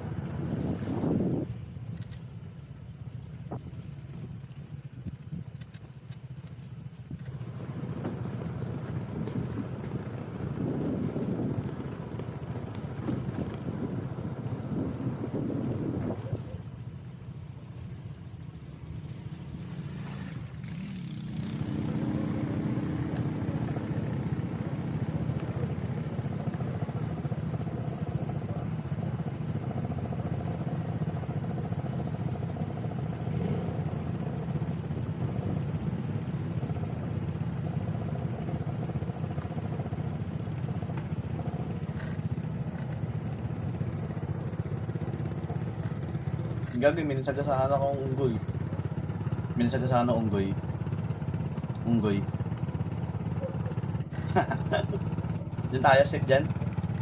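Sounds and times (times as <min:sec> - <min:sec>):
scooter engine running: 0:00.0 - 0:57.0.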